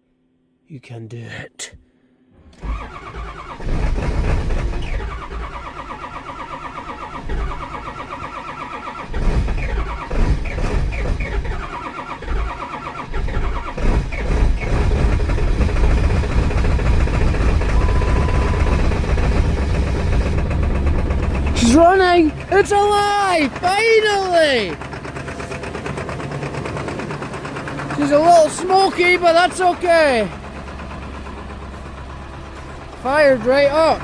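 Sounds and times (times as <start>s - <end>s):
diesel truck engine running: 2.4s - 34.0s
starter cranking: 2.5s - 34.0s.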